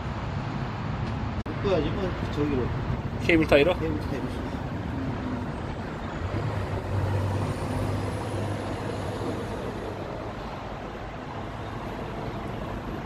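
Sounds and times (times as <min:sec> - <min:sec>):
heavy truck engine rumble: 0:00.1 - 0:13.0.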